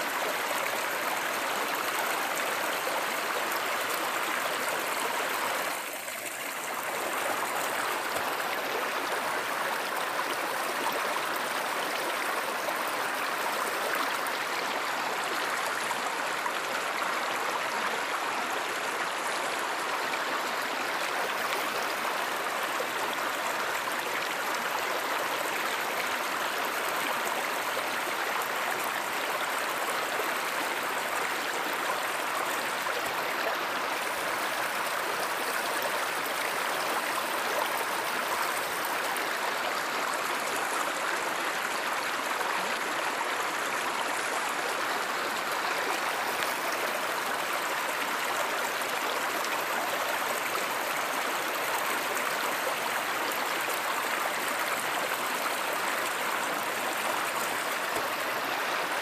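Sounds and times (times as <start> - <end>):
stream water rushing and gurgling: 0.0 - 59.0.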